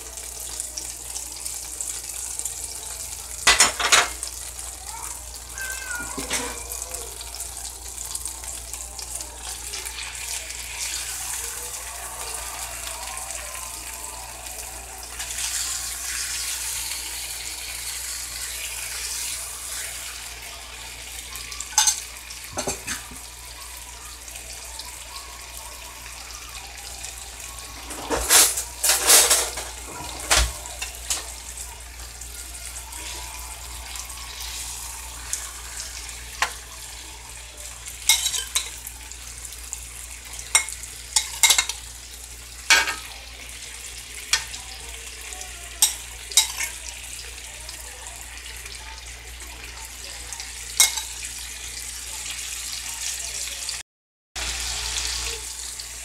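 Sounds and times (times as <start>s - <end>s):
food sizzling in a skillet: 0.0s - 53.8s, 54.4s - 56.0s.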